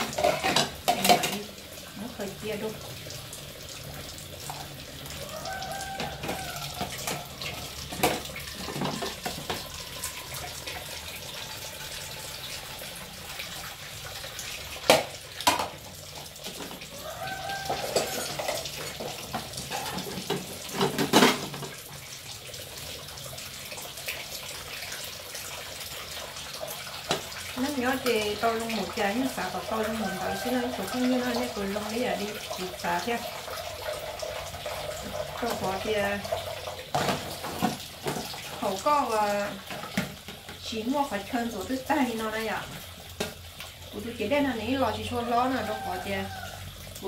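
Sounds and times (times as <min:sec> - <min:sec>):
tap water running into sink: 0:00.0 - 0:47.0.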